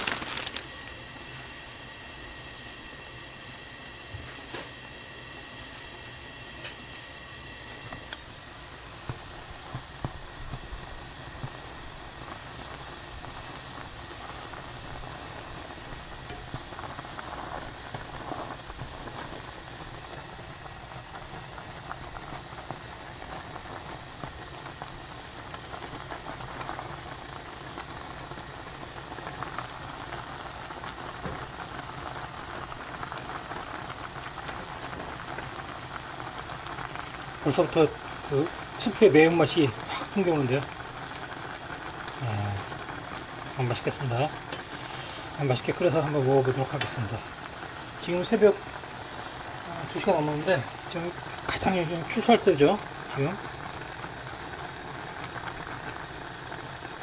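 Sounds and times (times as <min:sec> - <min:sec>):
water boiling in saucepan: 0:00.0 - 0:57.0.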